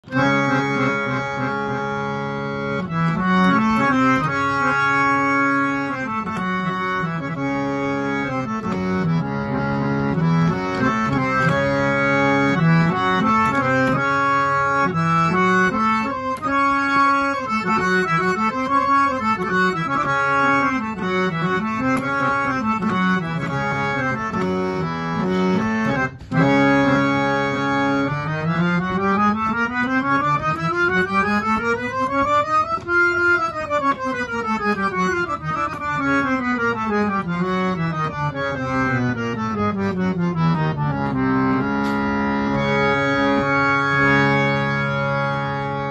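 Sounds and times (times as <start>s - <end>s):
harmonium melody: 0.0s - 45.9s.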